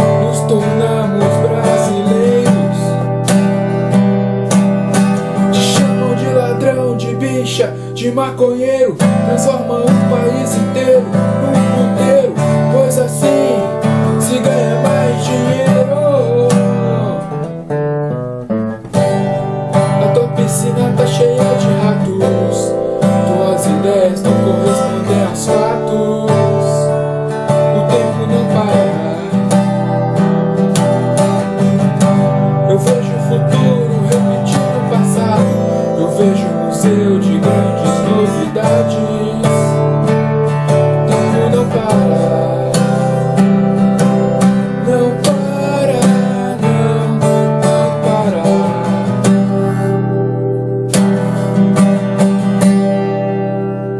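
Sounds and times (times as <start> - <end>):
acoustic guitar strummed: 0.0 - 53.9.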